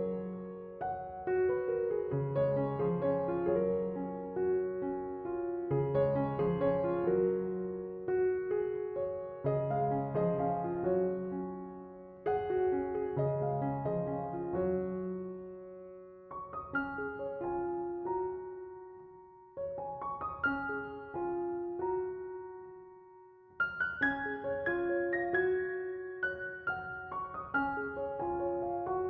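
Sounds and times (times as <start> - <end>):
soft solo piano music: 0.0 - 29.0.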